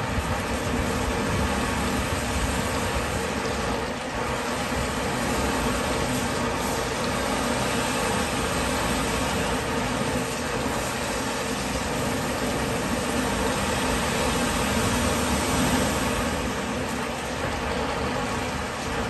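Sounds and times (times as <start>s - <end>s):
water gushing into a pit: 0.0s - 19.0s.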